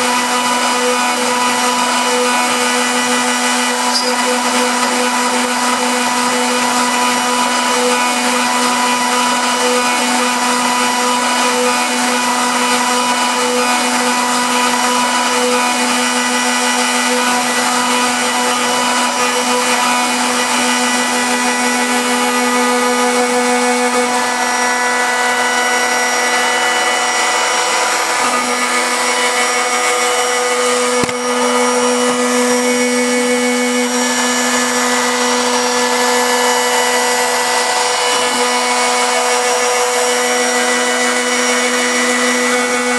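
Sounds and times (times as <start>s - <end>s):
cnc router spindle whine: 0.0s - 42.9s
end mill cutting fibreboard: 0.0s - 42.9s.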